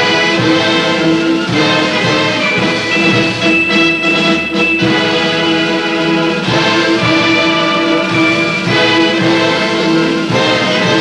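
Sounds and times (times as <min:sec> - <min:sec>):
orchestral string music: 0:00.0 - 0:11.0.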